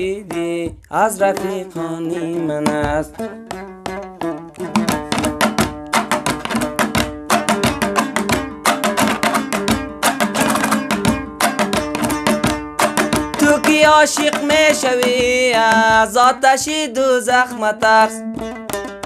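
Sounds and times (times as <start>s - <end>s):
lute strummed fast: 0.0s - 19.0s.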